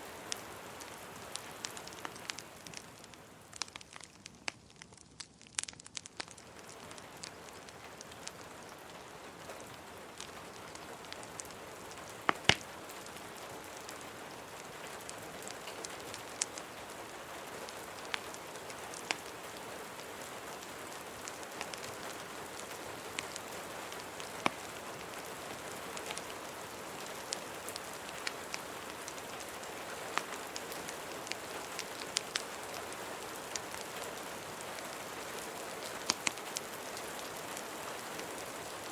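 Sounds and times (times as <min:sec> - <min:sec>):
steady rain: 0:00.0 - 0:38.9
wood fire popping and crackling: 0:00.0 - 0:38.9.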